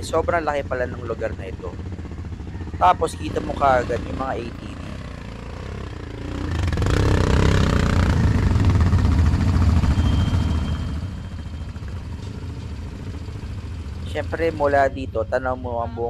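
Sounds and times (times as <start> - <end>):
quad bike engine running: 0.0 - 15.5.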